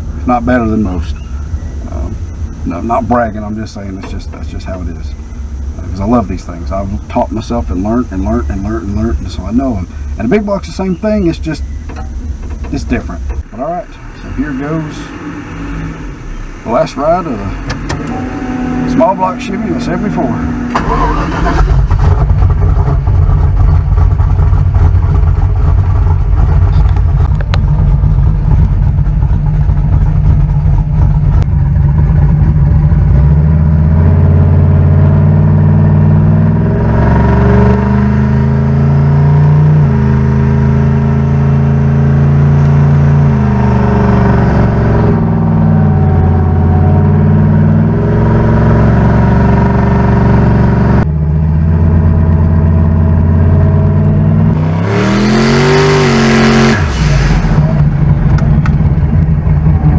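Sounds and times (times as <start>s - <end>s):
car engine idling and accelerating: 0.0s - 59.9s.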